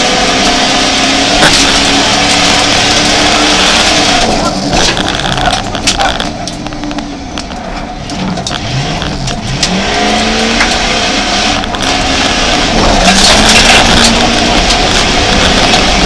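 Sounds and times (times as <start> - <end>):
car engine revving: 0.0 - 16.0
tyre and gravel rush: 0.0 - 16.0
gravel ticking against car body: 1.2 - 16.0.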